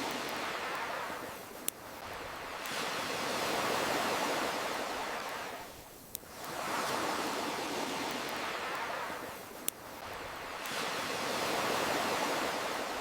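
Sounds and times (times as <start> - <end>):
ocean waves surging: 0.0 - 5.7, 6.3 - 13.0
campfire crackling: 0.0 - 13.0.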